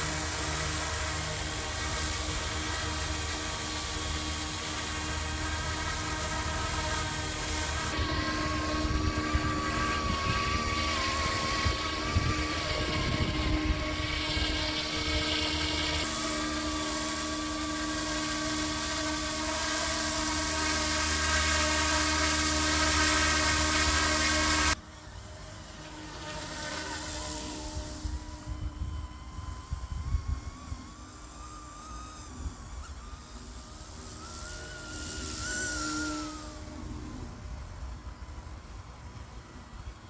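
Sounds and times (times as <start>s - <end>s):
rc helicopter rotors whining: 0.0s - 40.0s.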